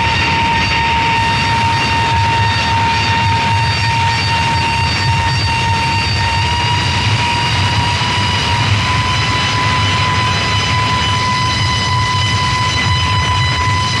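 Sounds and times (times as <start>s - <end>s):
loud rumbling noise: 0.0s - 14.0s
steady whining tone: 0.0s - 14.0s.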